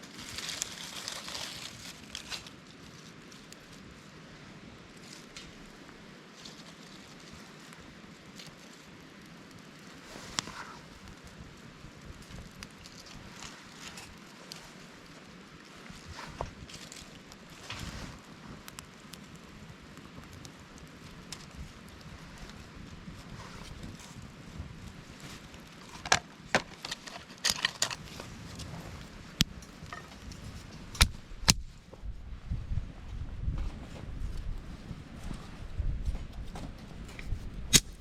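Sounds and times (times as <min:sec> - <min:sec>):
light rain falling: 0:00.0 - 0:32.2.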